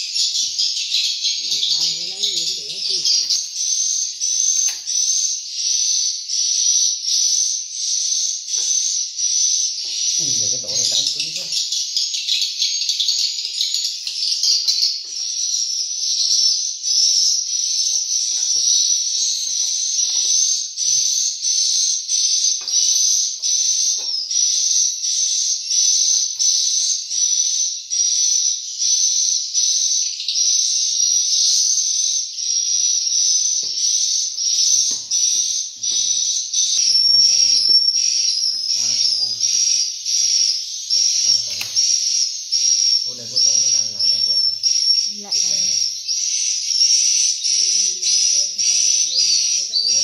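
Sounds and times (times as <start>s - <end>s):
high-pitched pulsing bird chirping: 0.0s - 50.0s.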